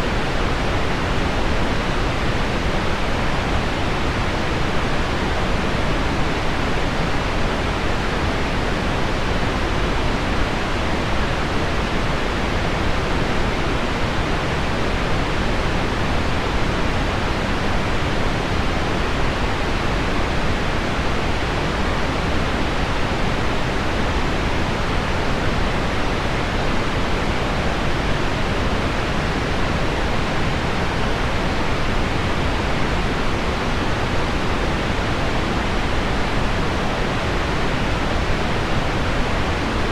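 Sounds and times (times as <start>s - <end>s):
pink noise: 0.0s - 39.9s.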